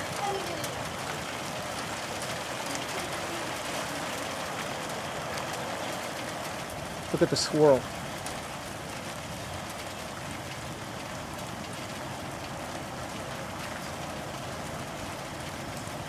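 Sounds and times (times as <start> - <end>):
distant tornado rushing: 0.0 - 16.0.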